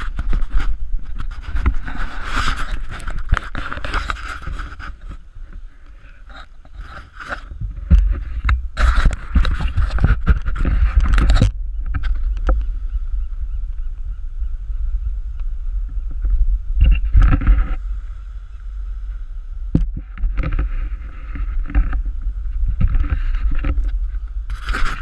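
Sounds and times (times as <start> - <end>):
camera rubbing and knocking: 0.0 - 12.8, 15.9 - 17.9, 19.7 - 25.0
wind buffeting microphone: 0.0 - 25.0.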